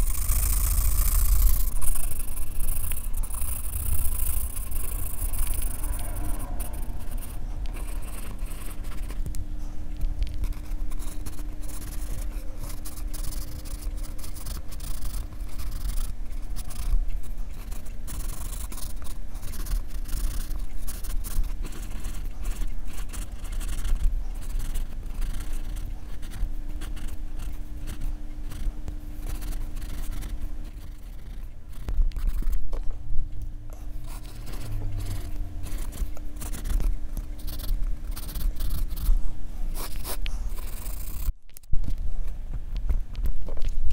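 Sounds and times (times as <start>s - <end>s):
pencil scratching on paper: 0.0s - 9.2s, 10.4s - 32.6s, 33.8s - 41.3s
faint low hum: 0.0s - 43.9s.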